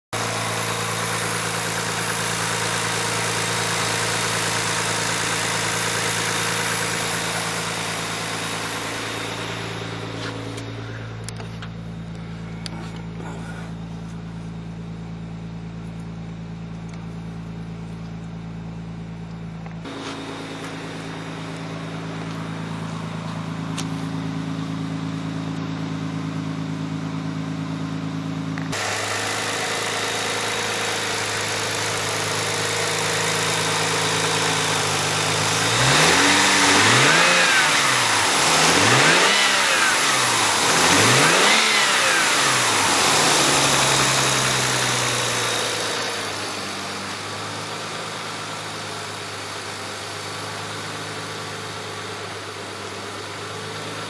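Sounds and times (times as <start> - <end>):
car engine idling: 0.1 - 54.0.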